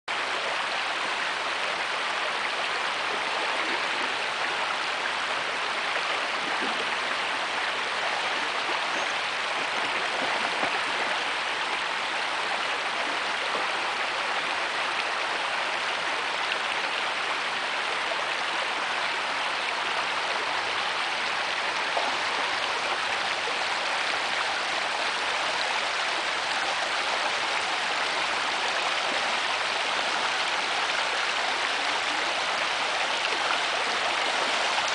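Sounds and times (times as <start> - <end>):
creek rushing over gravel: 0.2 - 34.9.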